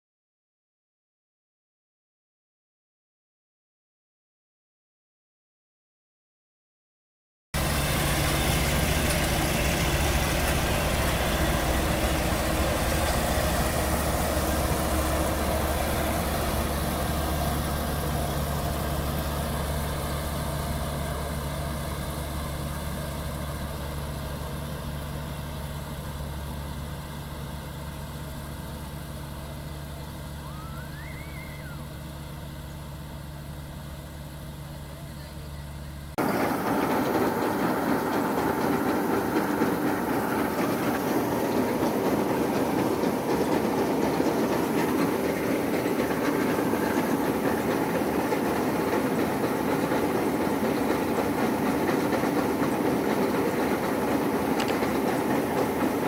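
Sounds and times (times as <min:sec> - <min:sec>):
combine harvester engine and threshing: 0:07.6 - 0:56.0.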